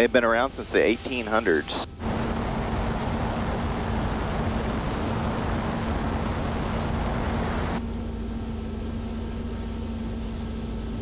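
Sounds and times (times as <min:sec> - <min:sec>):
helicopter in flight: 0:00.0 - 0:11.0
low hum: 0:00.0 - 0:11.0.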